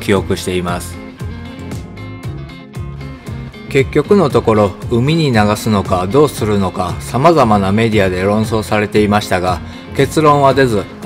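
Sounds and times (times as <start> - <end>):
background instrumental music: 0.0 - 11.0.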